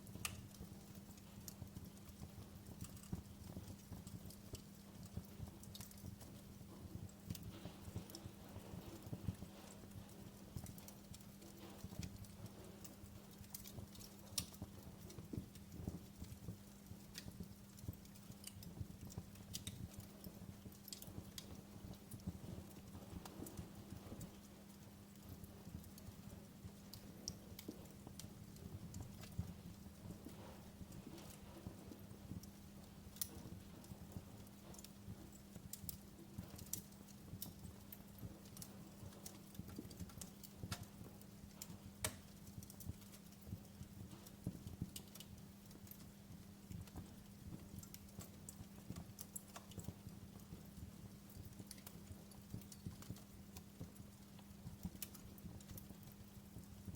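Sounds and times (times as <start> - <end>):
faint steady low hum: 0.0 - 56.9
wood fire crackling: 0.0 - 56.9.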